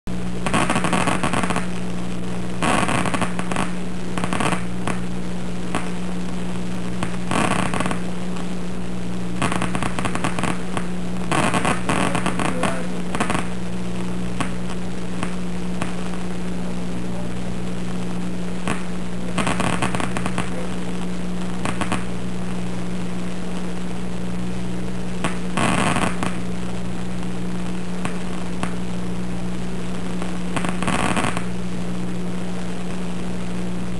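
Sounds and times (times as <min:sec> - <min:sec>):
rapid crackling clicks: 0:00.1 - 0:33.9
steady electrical hum: 0:00.1 - 0:33.9.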